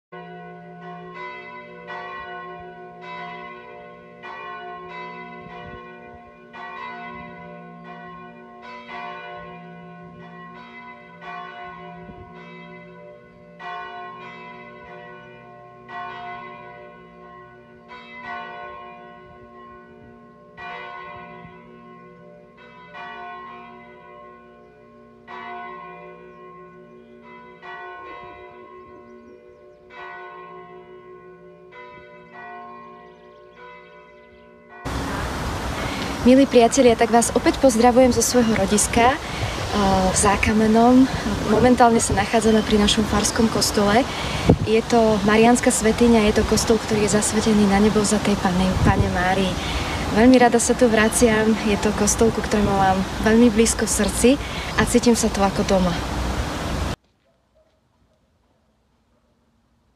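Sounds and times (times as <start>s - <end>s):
church bells ringing: 0.2s - 56.7s.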